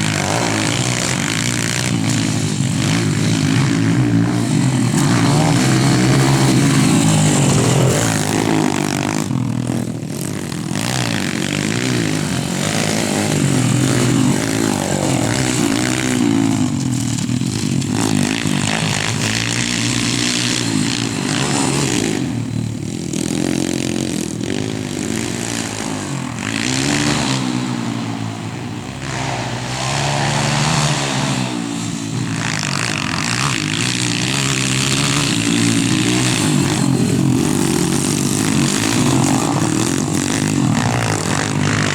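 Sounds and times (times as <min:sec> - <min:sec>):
pit bike engine revving: 0:00.0 - 0:41.9.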